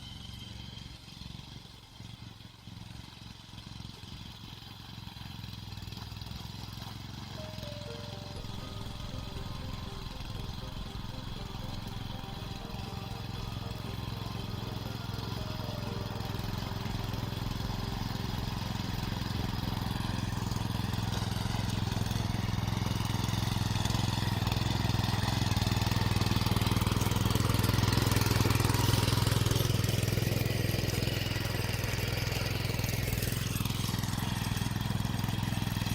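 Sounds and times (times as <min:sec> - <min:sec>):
cultivator engine running: 0:00.0 - 0:35.9.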